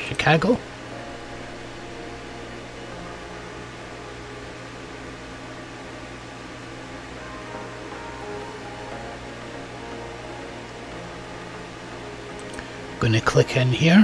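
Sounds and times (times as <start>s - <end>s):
steady room hum and hiss: 0.0s - 14.0s.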